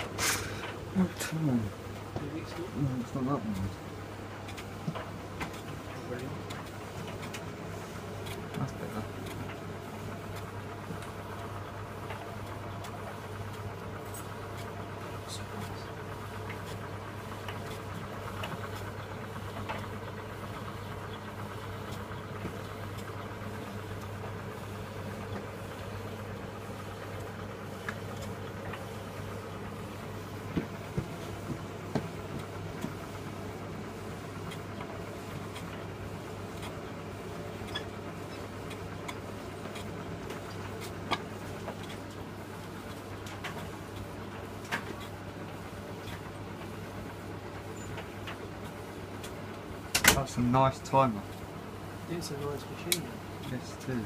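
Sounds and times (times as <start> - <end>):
tumble dryer running: 0.0 - 54.0.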